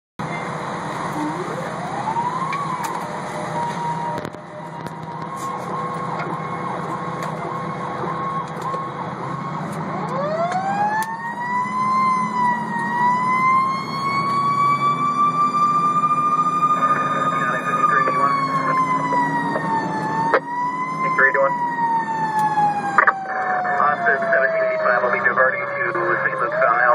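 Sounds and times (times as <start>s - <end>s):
fire engine siren wailing: 0.2s - 26.9s
truck engine running: 0.2s - 26.9s.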